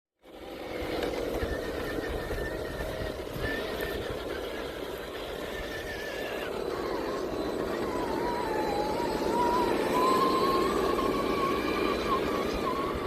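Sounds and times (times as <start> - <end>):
electric motor whining: 0.2 - 13.0.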